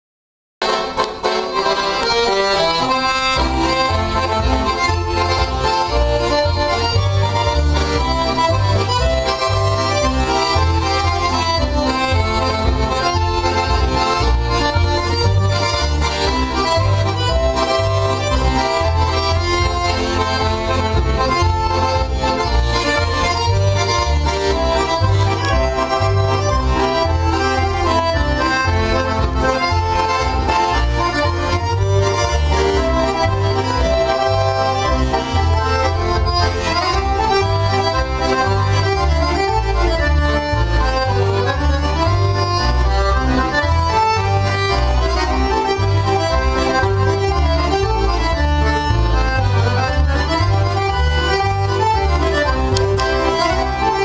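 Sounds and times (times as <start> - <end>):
button accordion playing: 0.6 - 54.0.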